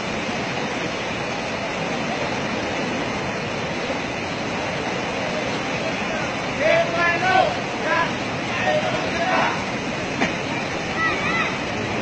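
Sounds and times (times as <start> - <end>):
churning foaming water rushing: 0.0 - 12.0.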